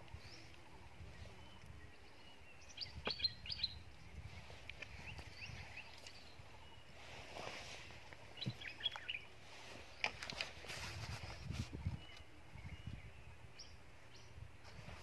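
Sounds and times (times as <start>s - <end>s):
birds chirping: 0.0s - 10.7s, 11.8s - 15.0s
faint outdoor background noise: 0.0s - 15.0s.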